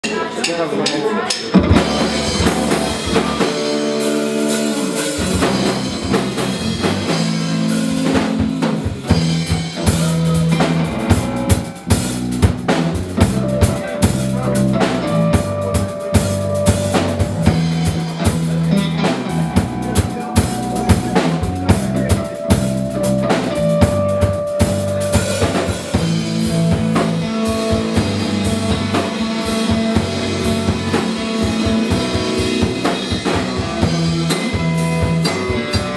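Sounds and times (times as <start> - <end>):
drum kit beat: 0.0 - 35.9
bass notes: 1.6 - 35.9
sustained melody lines: 1.6 - 35.9.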